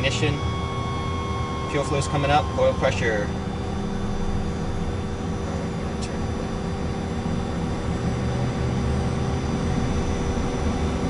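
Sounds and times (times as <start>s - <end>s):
turbofan engines whining: 0.0s - 11.0s.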